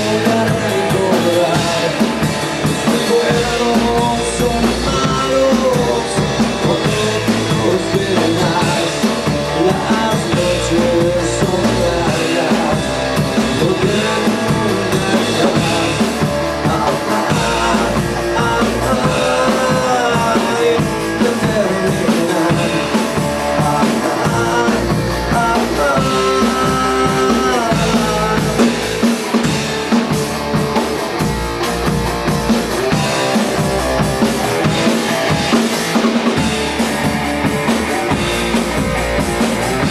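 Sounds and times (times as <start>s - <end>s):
bass guitar: 0.0s - 39.9s
drum kit: 0.0s - 39.9s
electric guitar sliding lead: 0.0s - 39.9s.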